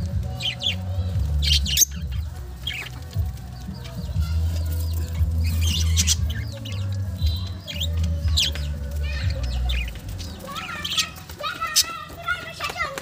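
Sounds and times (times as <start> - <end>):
budgerigars chirping and warbling: 0.0 - 12.8.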